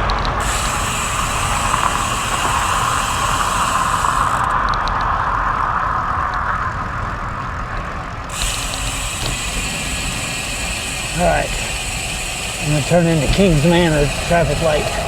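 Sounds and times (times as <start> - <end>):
vehicle traffic noise: 0.0 - 15.0.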